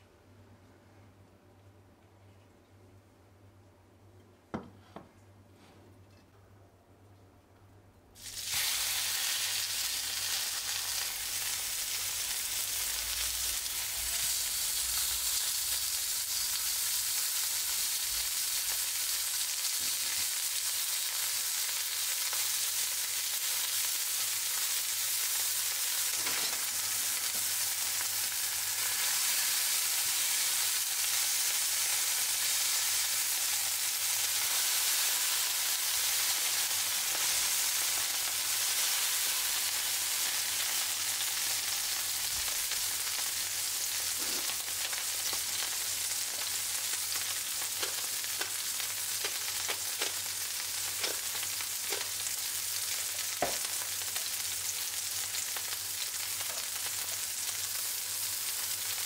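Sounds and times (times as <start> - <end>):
patties sizzling in frying pan: 8.2 - 59.0.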